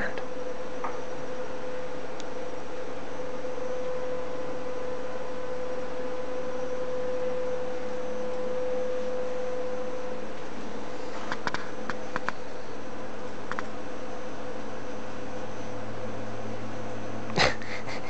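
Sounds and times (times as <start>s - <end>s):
constant hum tone: 0.0s - 18.0s.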